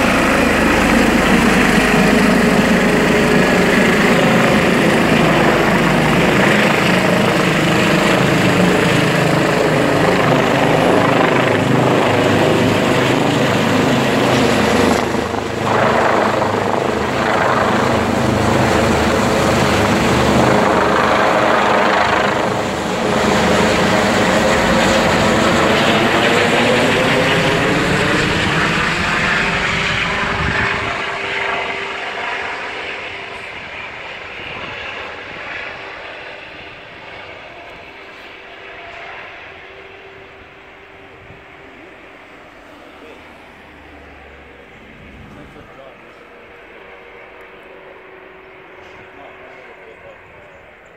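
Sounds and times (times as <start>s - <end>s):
helicopter flying overhead: 0.0s - 50.9s.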